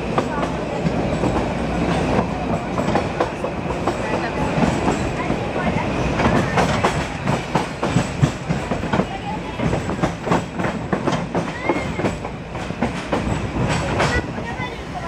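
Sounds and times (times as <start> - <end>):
railway carriage rumble: 0.0 - 15.0
wheels clattering on rails: 0.0 - 15.0.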